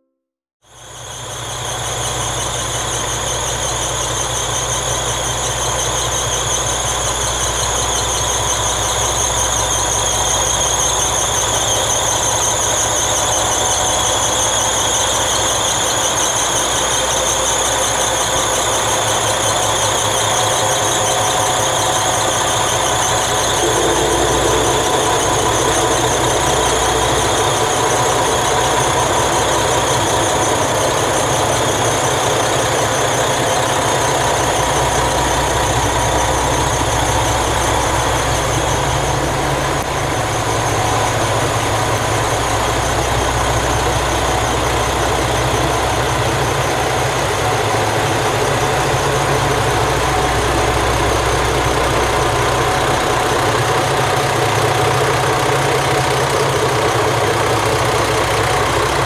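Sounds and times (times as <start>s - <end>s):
train diesel engines throbbing: 0.6s - 59.0s
steady high whine: 0.8s - 59.0s.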